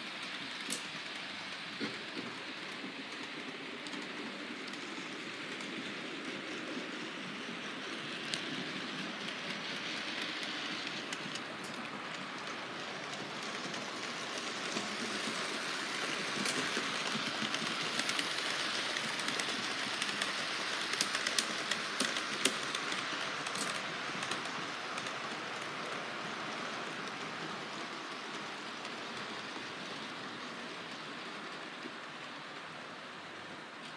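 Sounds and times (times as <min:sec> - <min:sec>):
model train rumbling on track: 0:00.0 - 0:33.9.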